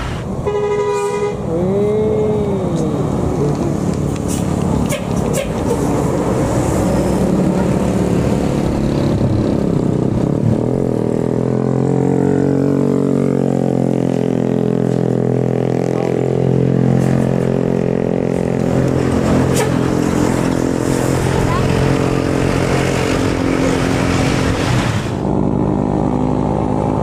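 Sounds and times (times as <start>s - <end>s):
diesel coach engine passing: 0.0s - 27.0s.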